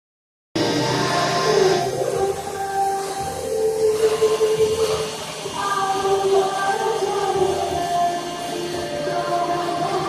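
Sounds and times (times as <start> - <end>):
background music: 0.6 - 10.0.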